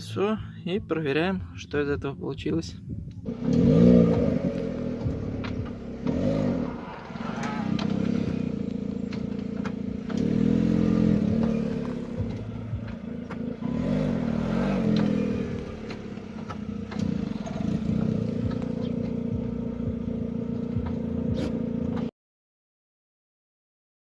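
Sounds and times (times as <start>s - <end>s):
car engine running: 0.0s - 22.1s.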